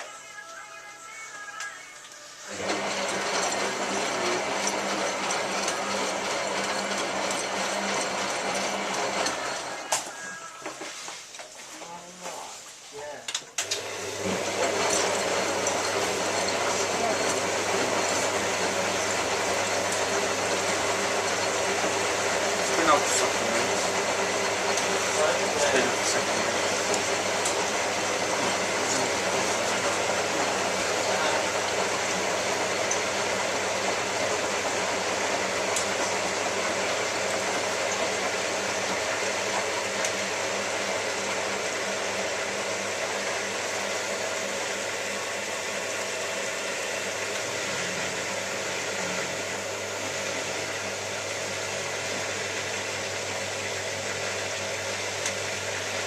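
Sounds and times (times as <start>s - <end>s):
washing machine rushing and humming: 1.9s - 56.0s.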